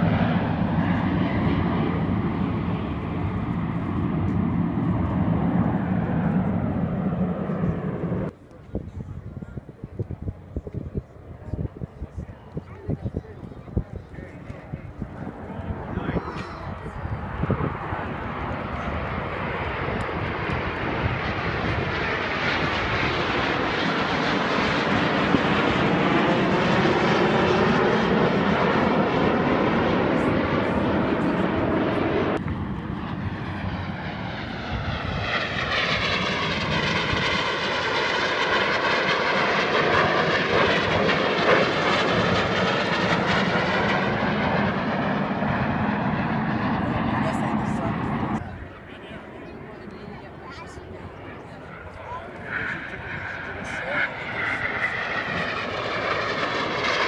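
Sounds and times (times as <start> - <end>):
jets flying past overhead: 0.0 - 57.0.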